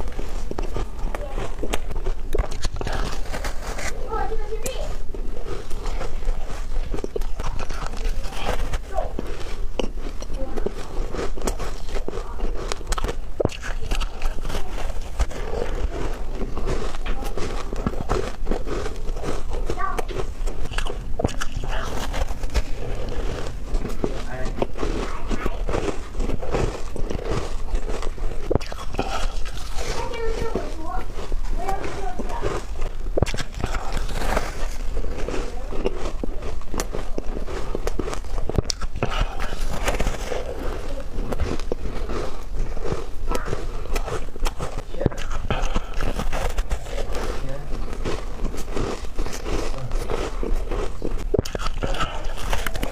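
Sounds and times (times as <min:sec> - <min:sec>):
crunching bites into ice: 0:06.9 - 0:30.6, 0:32.4 - 0:52.9.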